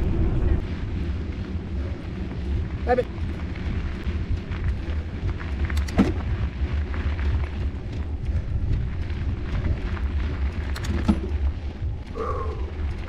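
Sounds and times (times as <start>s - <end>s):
bike tyre noise and rattles: 0.0s - 13.0s
wind buffeting microphone: 0.0s - 13.0s.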